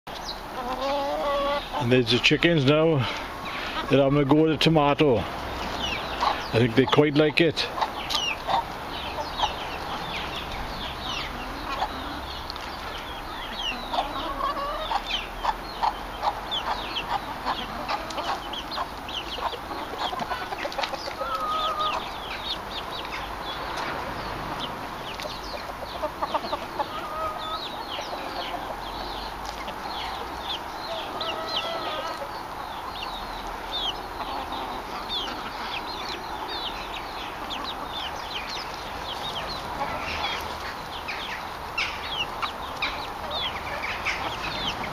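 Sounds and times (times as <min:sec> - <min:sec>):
hens clucking: 0:00.1 - 0:44.9.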